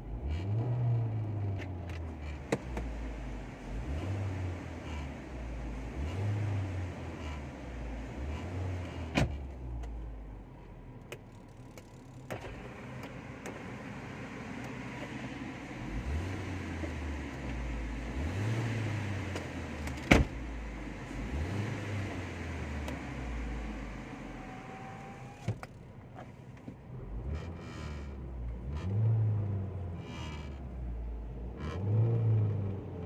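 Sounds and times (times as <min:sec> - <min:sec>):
car engine revving in blips: 0:00.0 - 0:10.2, 0:11.0 - 0:33.0.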